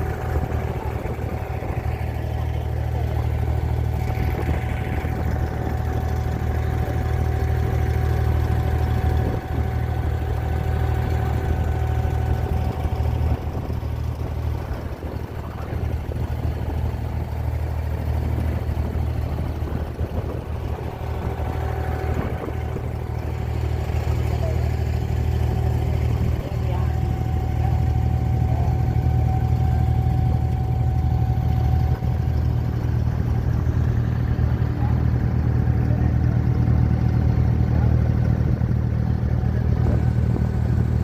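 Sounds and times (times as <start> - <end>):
boat engine droning: 0.0 - 41.0.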